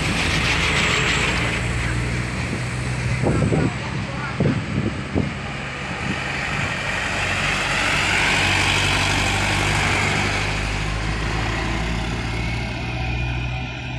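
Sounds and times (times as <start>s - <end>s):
truck driving past: 0.0s - 13.9s.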